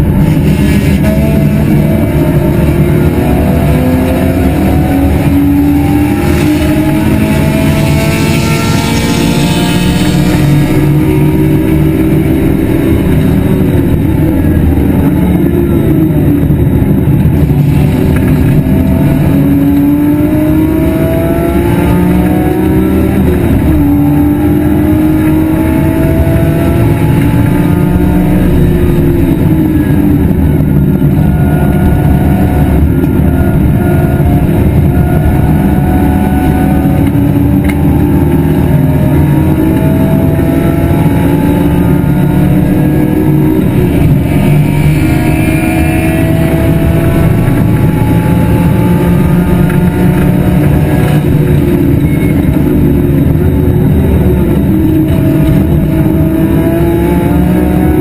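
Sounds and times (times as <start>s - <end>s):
race car engine at full throttle: 0.0s - 58.0s
road and wind noise: 0.0s - 58.0s.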